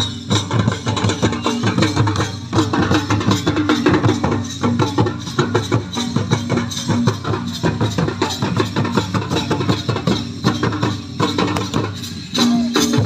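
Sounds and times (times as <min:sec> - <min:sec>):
hand drums beating fast rhythm: 0:00.0 - 0:13.0.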